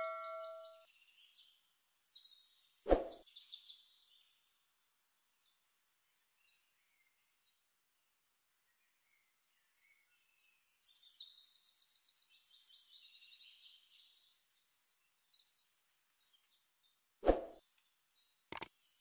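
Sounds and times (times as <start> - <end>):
songbirds trilling and chirping: 0.0 - 19.0.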